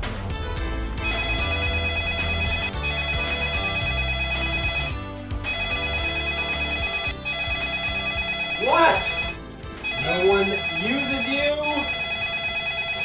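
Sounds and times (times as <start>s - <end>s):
background music with bass: 0.0s - 11.6s
phone ringing: 1.0s - 13.0s.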